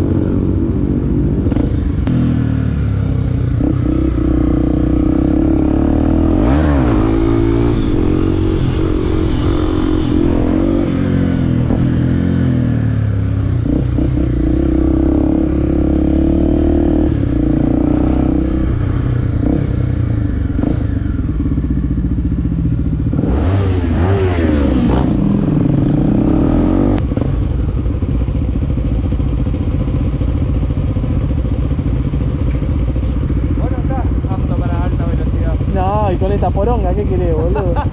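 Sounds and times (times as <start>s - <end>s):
motorcycle engine revving: 0.0s - 37.9s
road and wind noise: 0.0s - 37.9s.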